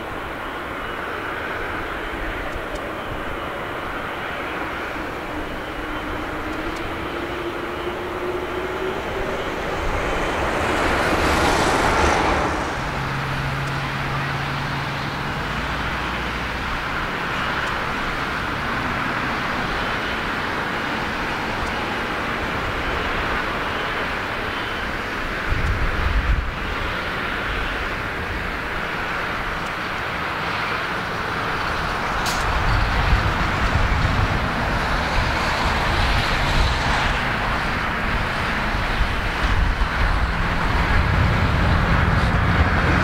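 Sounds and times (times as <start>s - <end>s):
jet airliner engines: 0.0s - 43.0s.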